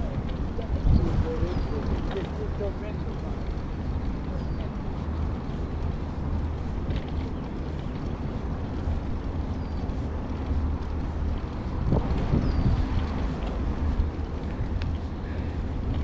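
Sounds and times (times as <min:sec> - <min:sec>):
bicycle ride noise: 0:00.0 - 0:16.0
wind buffeting microphone: 0:00.0 - 0:16.0.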